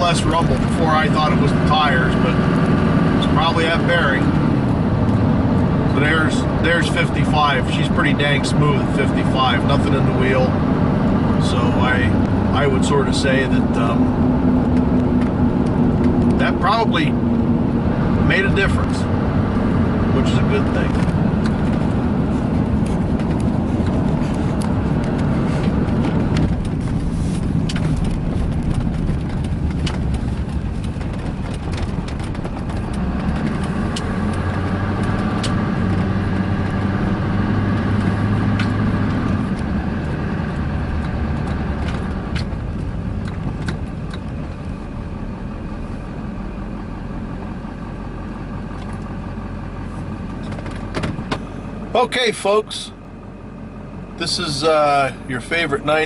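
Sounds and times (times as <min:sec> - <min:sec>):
engine and tyre drone: 0:00.0 - 0:56.0.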